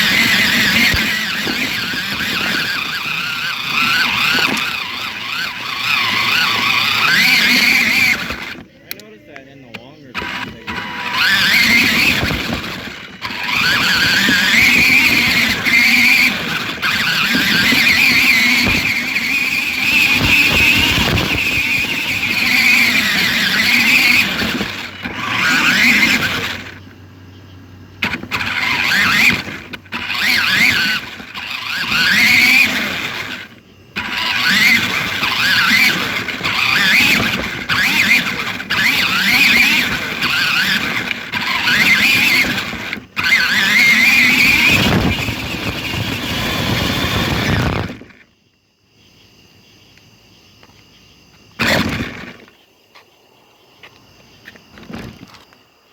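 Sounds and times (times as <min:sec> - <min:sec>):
toy car electric motor whining: 0:00.0 - 0:27.1, 0:27.7 - 0:48.3, 0:51.5 - 0:52.6, 0:53.9 - 0:55.6.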